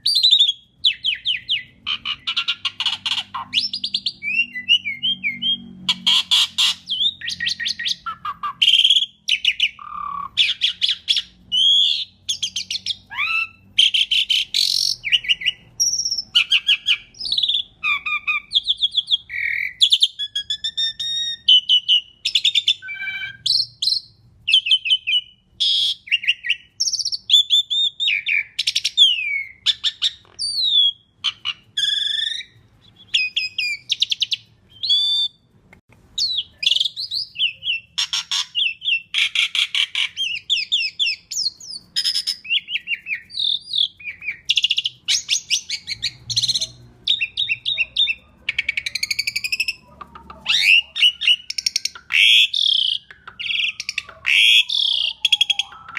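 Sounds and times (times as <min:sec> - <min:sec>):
starling singing: 0:00.0 - 0:35.5, 0:36.2 - 0:55.9.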